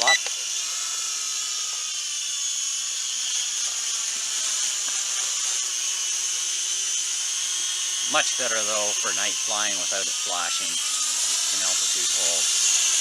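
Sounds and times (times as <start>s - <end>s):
toy quadcopter whine: 0.0s - 13.0s.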